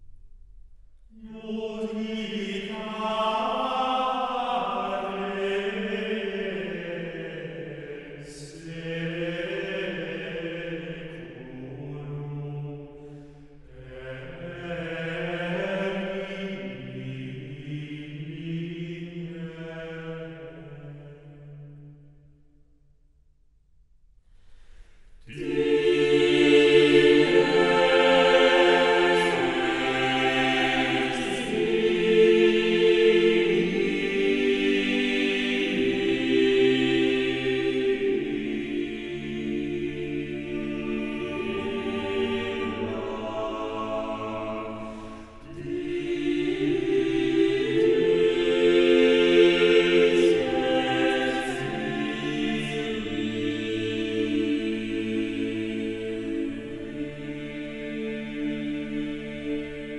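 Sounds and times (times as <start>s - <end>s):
choir singing held chords: 1.1s - 22.0s, 25.2s - 59.9s.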